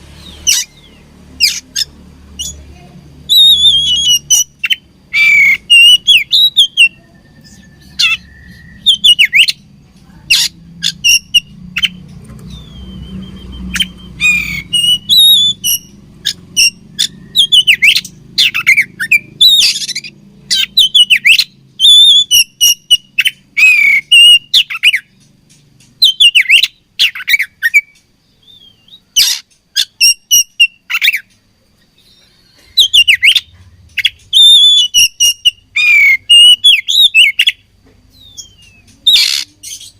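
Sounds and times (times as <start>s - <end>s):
bird singing chirps and whistles: 3.2s - 9.7s, 10.3s - 25.2s, 26.0s - 39.9s.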